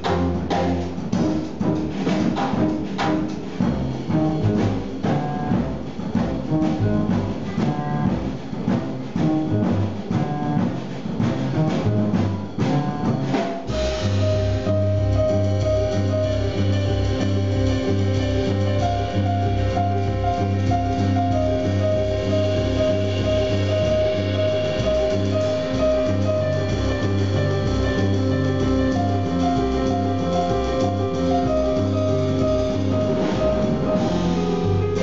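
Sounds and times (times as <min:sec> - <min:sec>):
double bass: 0:00.0 - 0:35.0
drum kit with cymbals: 0:00.0 - 0:35.0
piano: 0:00.0 - 0:35.0.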